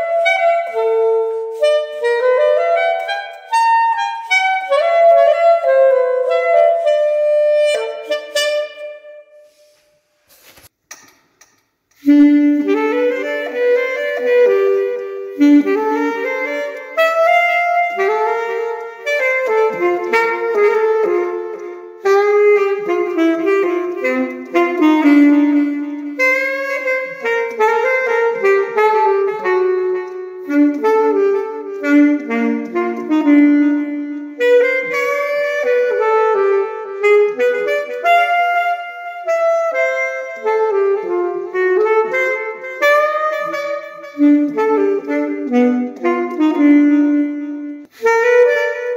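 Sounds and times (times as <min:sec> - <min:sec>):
saxophone melody: 0:00.0 - 0:10.7, 0:11.8 - 0:48.9.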